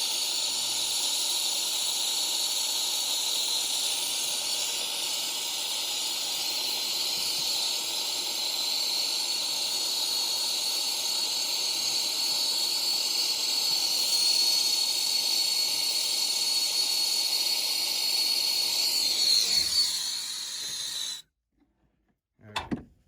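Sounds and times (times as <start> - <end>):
torch flame hissing: 0.0 - 21.2.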